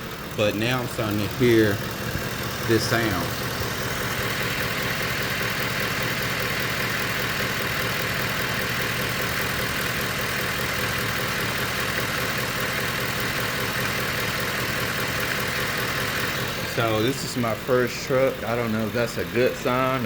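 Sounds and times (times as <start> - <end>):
engine idling: 0.0 - 20.0
engine knocking: 0.0 - 20.0.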